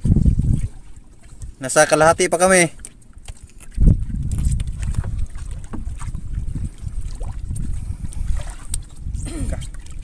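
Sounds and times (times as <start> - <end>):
wind rumble on microphone: 0.0 - 2.5, 3.5 - 10.0
water sloshing around boat: 0.0 - 10.0.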